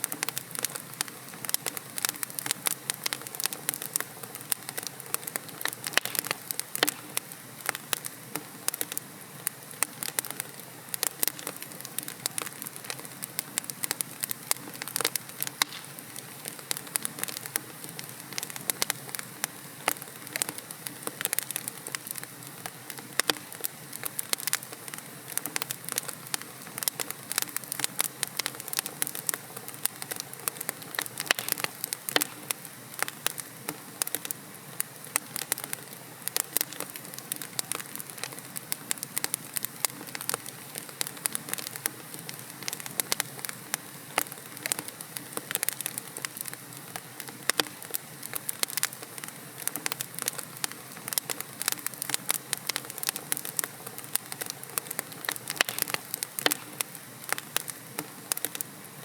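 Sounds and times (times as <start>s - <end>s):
logs burning in fireplace: 0.0s - 59.0s.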